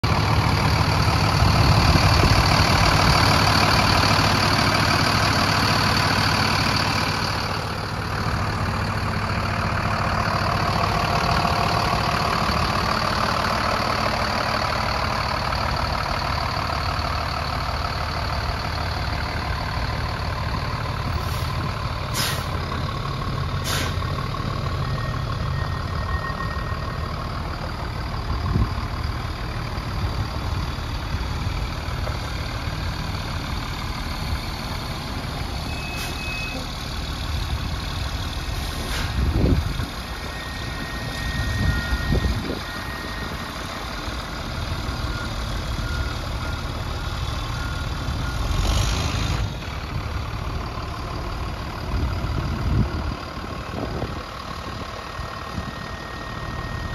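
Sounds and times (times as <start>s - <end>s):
diesel truck engine idling: 0.0s - 56.9s.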